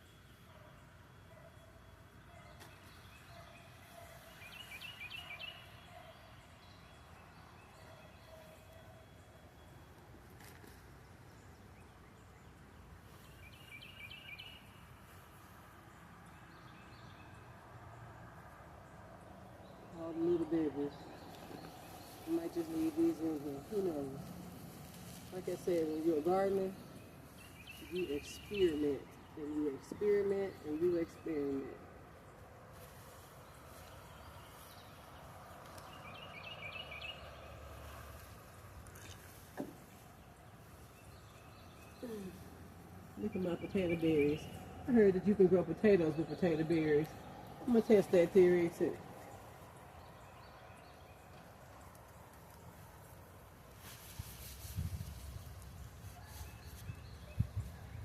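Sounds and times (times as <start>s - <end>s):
faint outdoor background noise: 0.0s - 58.0s.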